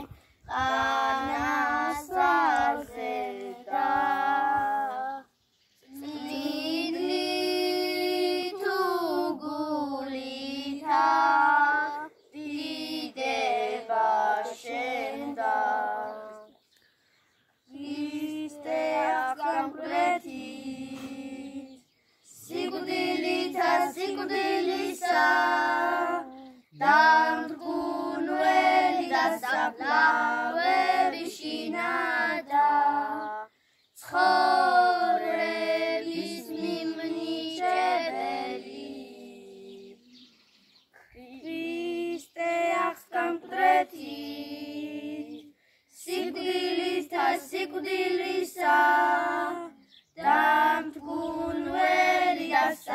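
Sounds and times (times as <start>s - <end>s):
children singing a chant: 0.0s - 5.3s, 5.9s - 16.6s, 17.7s - 40.1s, 41.2s - 52.9s.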